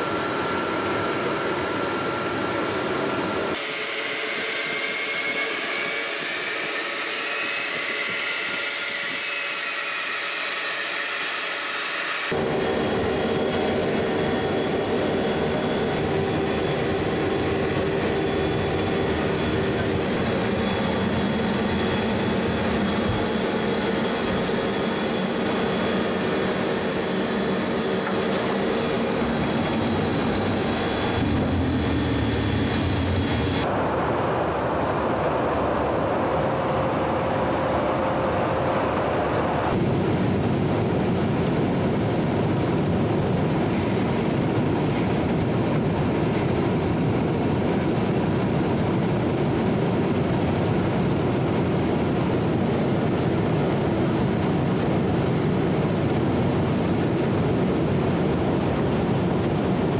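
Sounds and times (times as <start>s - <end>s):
turbine engine whine: 0.0s - 59.9s.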